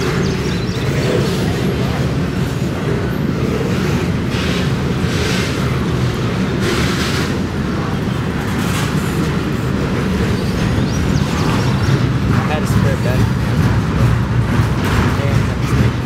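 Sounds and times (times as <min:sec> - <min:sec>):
train rumbling past: 0:00.0 - 0:16.0
wheel and rail noise: 0:00.0 - 0:16.0.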